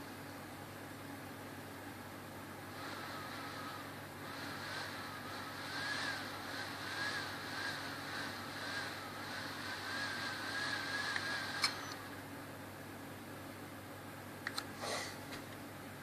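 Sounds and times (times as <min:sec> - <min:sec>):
laptop fan whirring whine: 0:00.0 - 0:16.0.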